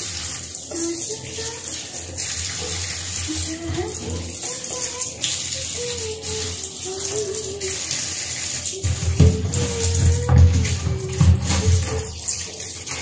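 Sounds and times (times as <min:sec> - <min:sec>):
tap water splashing into sink: 0:00.0 - 0:13.0.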